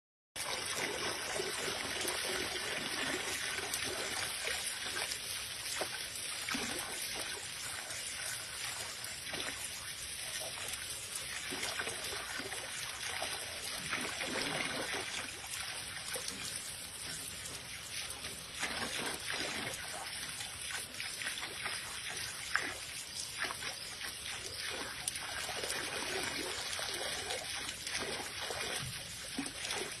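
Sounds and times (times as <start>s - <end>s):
water stream splashing into basin: 0.4s - 30.0s.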